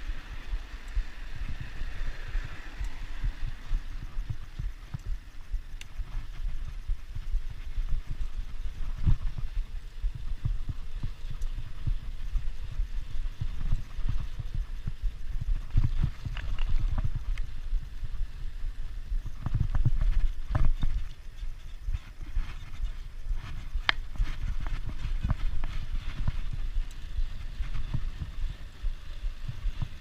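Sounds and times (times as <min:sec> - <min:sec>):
bike and mount clicks and rattles: 0:00.0 - 0:30.0
wind buffeting microphone: 0:00.0 - 0:30.0.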